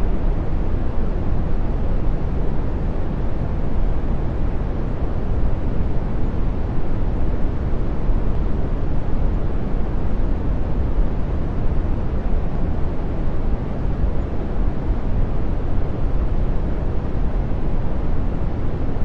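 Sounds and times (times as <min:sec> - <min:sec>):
brown noise: 0:00.0 - 0:19.0.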